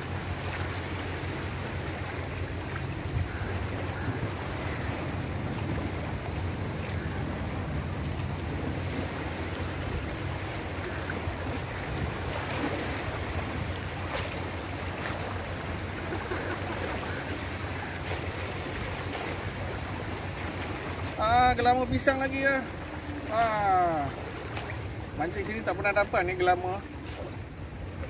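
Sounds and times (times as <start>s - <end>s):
waves washing over shore: 0.0s - 28.0s.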